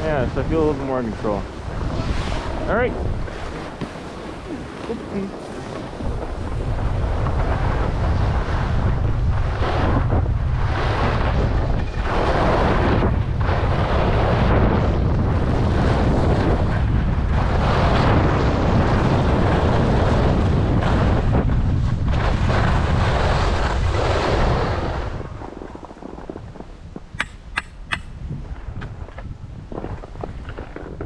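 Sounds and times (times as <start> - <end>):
skis scraping over snow: 0.0 - 27.2, 28.4 - 31.0
wind buffeting the microphone: 0.0 - 31.0.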